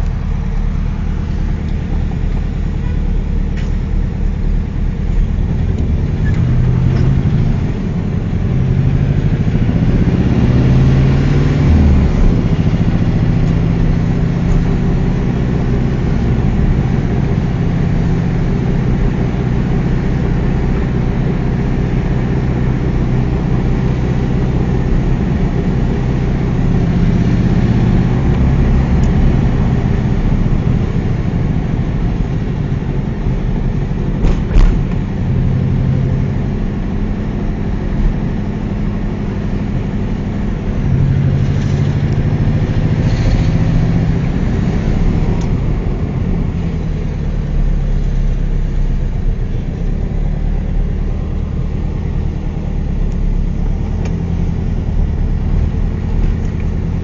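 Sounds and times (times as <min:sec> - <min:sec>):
car engine running while driving: 0:00.0 - 0:57.0.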